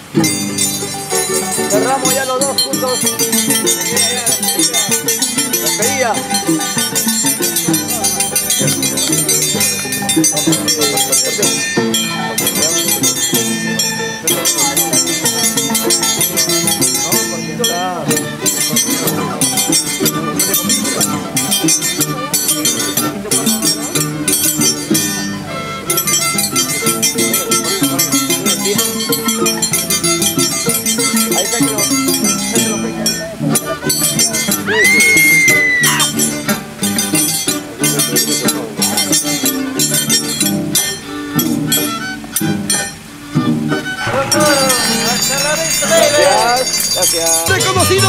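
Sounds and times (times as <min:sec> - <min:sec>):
violin and harp playing: 0:00.0 - 0:48.0.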